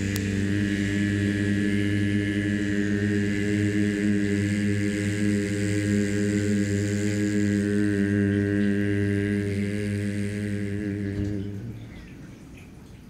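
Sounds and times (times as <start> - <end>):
person chanting a long vowel: 0.0 - 12.0.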